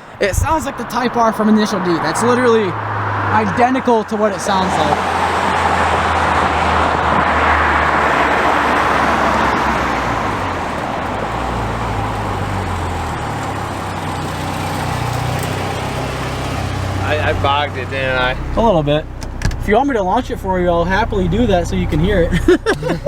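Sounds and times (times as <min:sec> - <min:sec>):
car engine running: 0:00.0 - 0:23.0
road and wind noise: 0:00.0 - 0:23.0.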